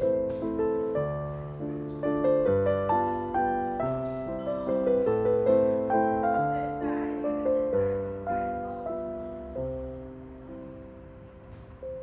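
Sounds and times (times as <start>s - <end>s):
piano melody over chords: 0.0s - 12.0s.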